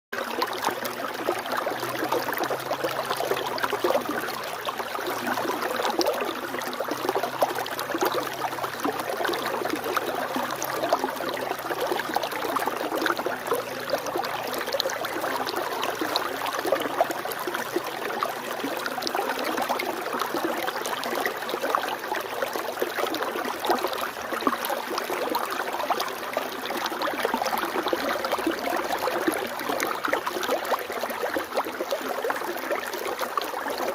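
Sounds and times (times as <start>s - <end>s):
stream water flowing: 0.2s - 33.9s.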